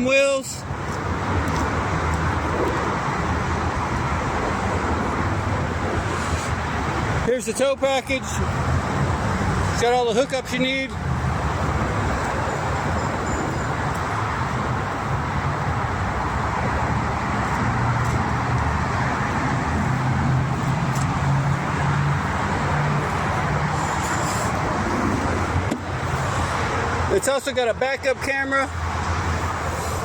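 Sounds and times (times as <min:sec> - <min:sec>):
motor vehicle hum and hiss: 0:00.0 - 0:30.0.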